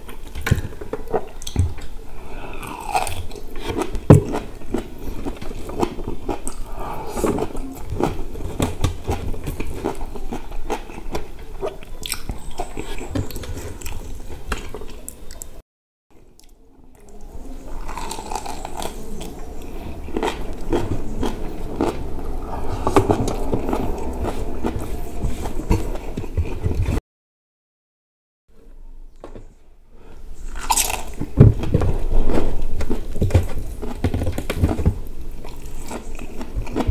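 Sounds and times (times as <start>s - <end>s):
close chewing and biting food: 0.0s - 15.6s, 16.2s - 27.0s, 30.4s - 36.9s.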